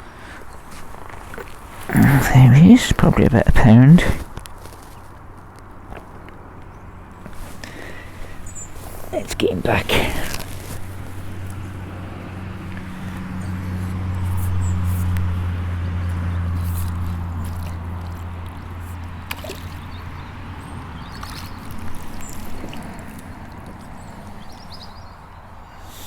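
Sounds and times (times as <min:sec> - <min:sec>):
low engine hum: 0:00.0 - 0:26.0
water sloshing and trickling: 0:04.2 - 0:25.7.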